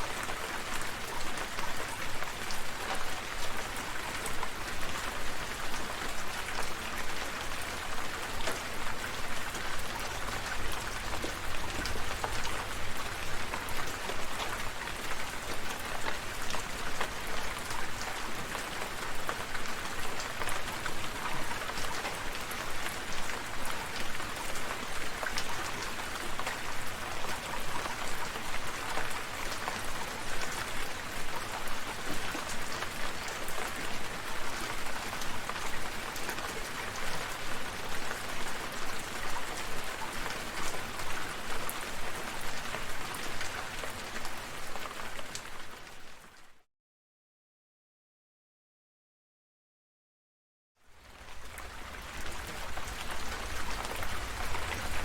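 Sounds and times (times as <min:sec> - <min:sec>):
steady rainfall: 0:00.0 - 0:46.6, 0:50.8 - 0:55.0.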